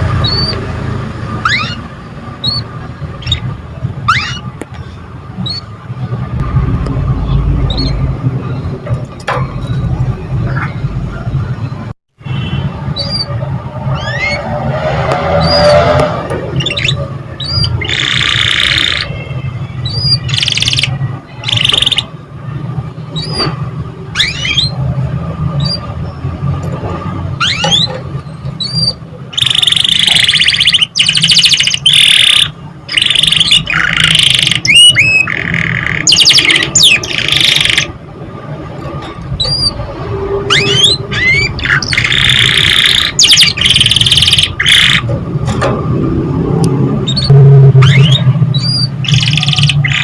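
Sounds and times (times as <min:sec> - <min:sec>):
canary song with trills: 0:00.0 - 0:38.0, 0:38.9 - 0:45.2, 0:47.0 - 0:50.0.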